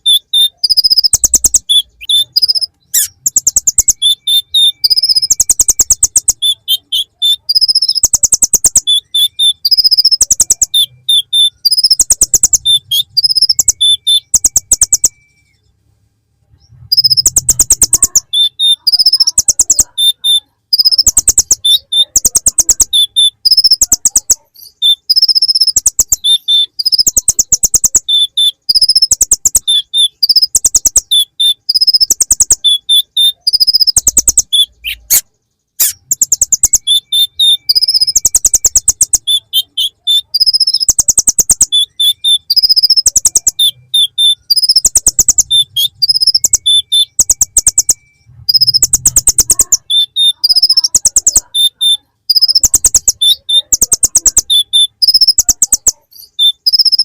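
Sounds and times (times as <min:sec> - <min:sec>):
bird buzzy trills: 0:00.0 - 0:15.6, 0:16.8 - 0:57.0
bird sharp chirps: 0:00.0 - 0:15.7, 0:16.5 - 0:57.0.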